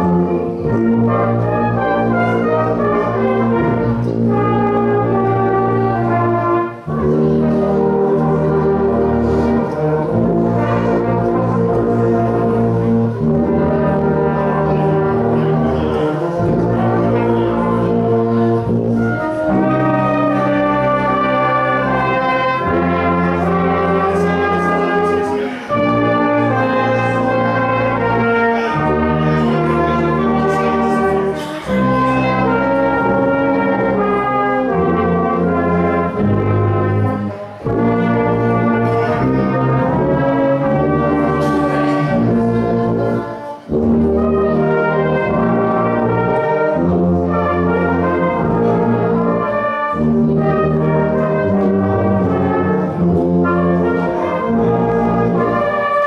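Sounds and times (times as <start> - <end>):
brass band playing slow chords: 0.0 - 56.0.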